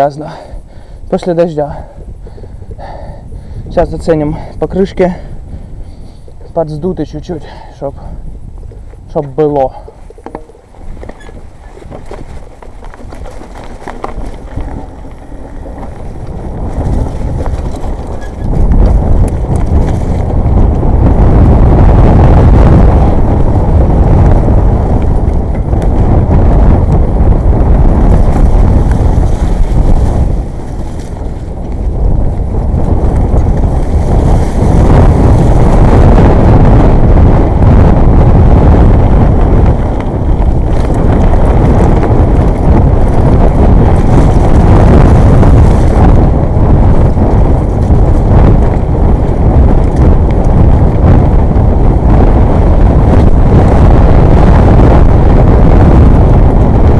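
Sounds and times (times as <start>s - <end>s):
mountain bike rattling over trail: 0.0s - 56.9s
wind buffeting microphone: 0.0s - 56.9s.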